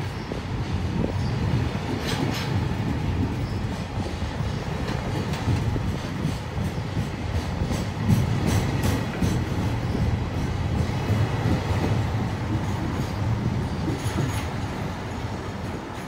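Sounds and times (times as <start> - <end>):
freight train rumbling past: 0.0 - 16.0
wheels clicking over rail joints: 1.0 - 16.0.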